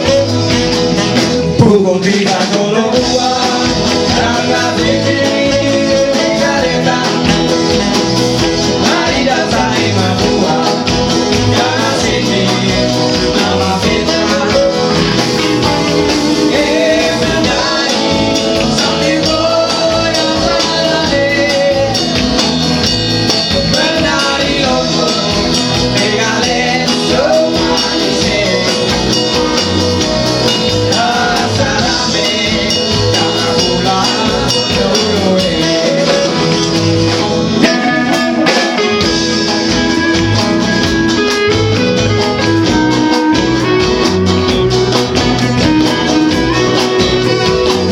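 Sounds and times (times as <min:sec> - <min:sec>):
live band playing pop: 0:00.0 - 0:47.9.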